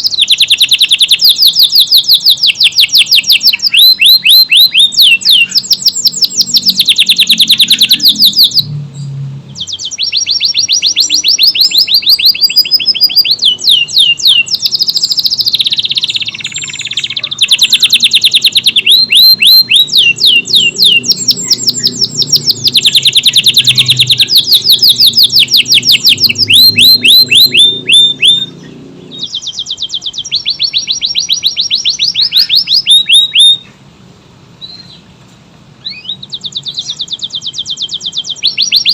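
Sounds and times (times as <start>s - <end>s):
canary singing: 0.0s - 33.8s, 34.6s - 35.1s, 35.8s - 38.9s.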